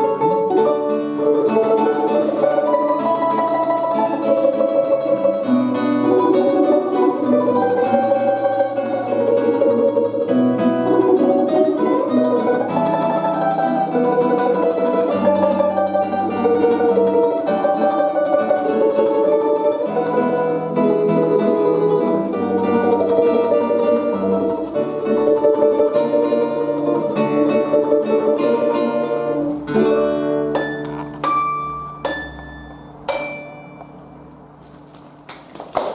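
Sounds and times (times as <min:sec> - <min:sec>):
plucked string instrumental music: 0:00.0 - 0:35.3.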